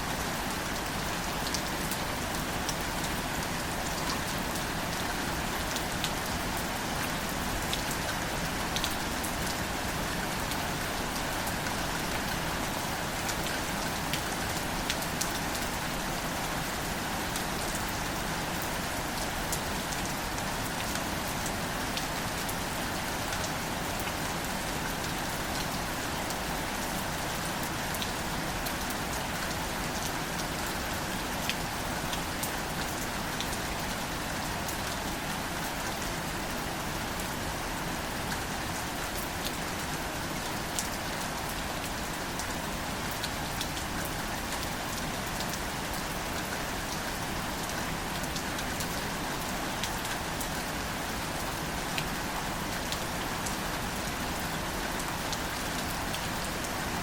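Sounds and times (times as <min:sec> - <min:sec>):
light rain on leaves: 0:00.0 - 0:57.0.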